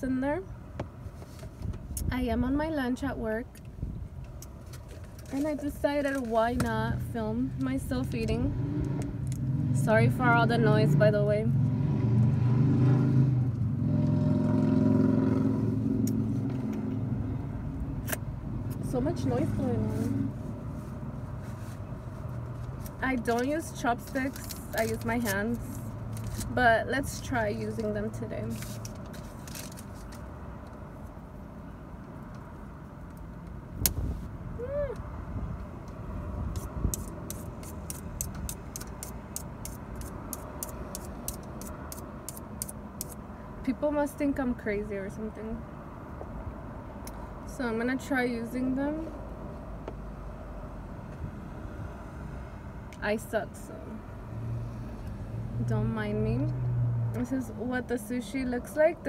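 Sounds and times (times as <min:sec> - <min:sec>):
low rumble of traffic: 0:00.0 - 0:59.0
passing vehicle engine hum: 0:05.2 - 0:59.0.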